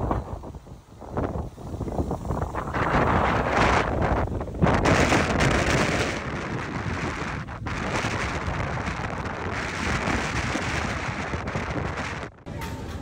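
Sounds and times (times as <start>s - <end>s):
driving rain: 0.0s - 12.5s
strong wind buffeting microphone: 0.0s - 13.0s.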